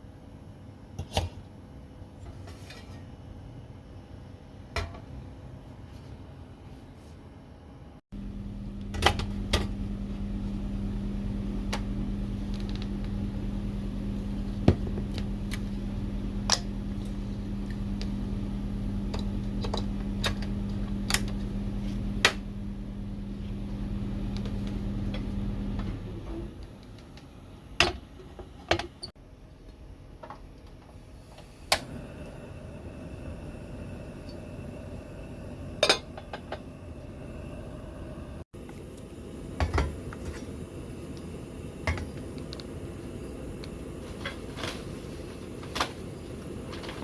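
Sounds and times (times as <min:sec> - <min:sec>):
appliance humming: 0:00.0 - 0:47.0.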